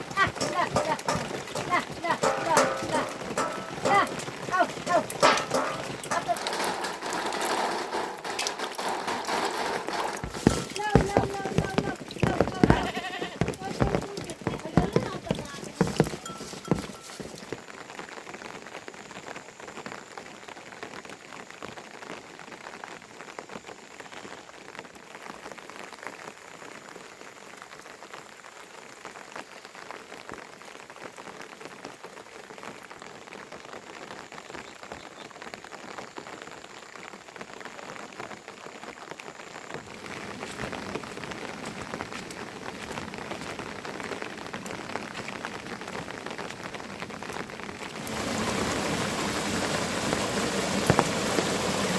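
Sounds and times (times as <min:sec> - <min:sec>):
rain drops ticking on a surface: 0:00.0 - 0:51.9.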